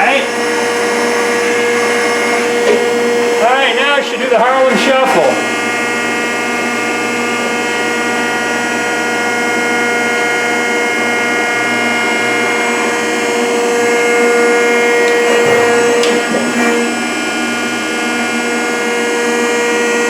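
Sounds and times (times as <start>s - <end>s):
hydraulic drive whine: 0.0s - 20.0s
mechanical hum: 0.0s - 20.0s.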